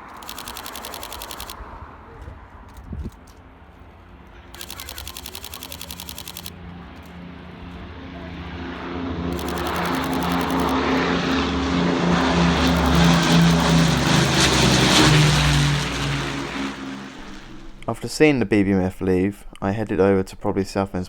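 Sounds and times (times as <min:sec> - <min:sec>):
propeller aircraft engine throbbing: 0:00.0 - 0:17.9.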